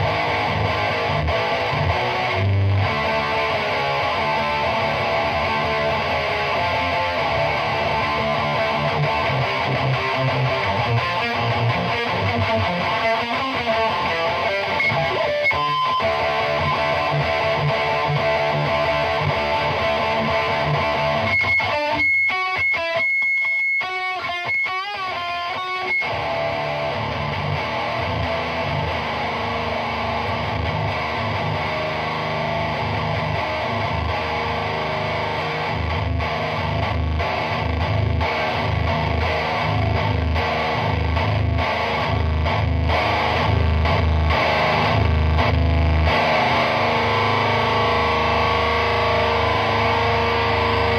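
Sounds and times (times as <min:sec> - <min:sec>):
distorted electric guitar riffing: 0:00.0 - 0:50.9.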